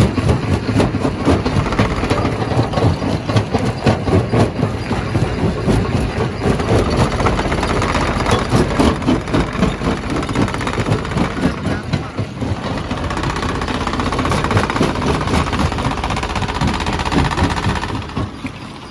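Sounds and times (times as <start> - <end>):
knocks and clatter: 0.0 - 18.9
stone crusher rumble: 0.0 - 18.9.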